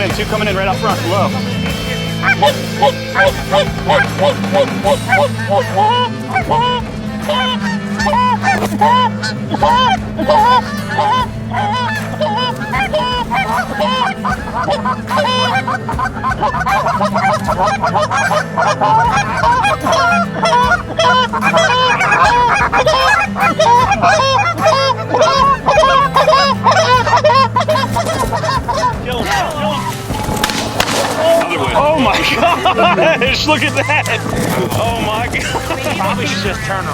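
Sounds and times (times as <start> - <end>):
geese honking: 0.0 - 36.9.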